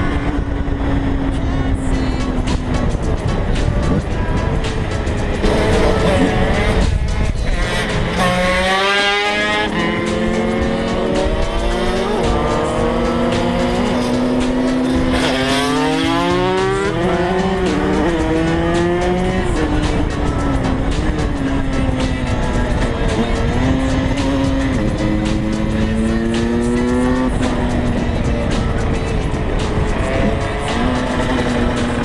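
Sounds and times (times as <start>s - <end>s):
engine running at steady pitch: 0.0s - 32.0s
motorcycle engine revving: 0.0s - 32.0s.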